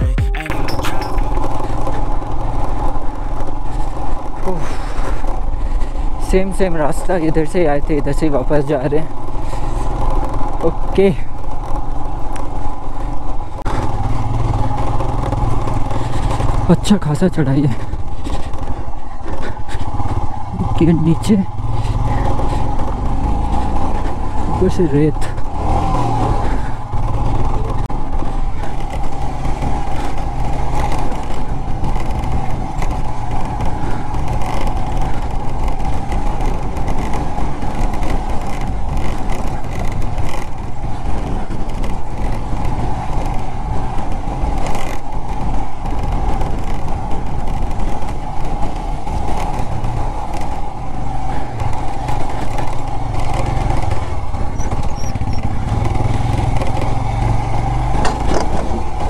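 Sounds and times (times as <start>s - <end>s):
motorcycle engine under load: 0.0s - 59.0s
road noise: 0.0s - 59.0s.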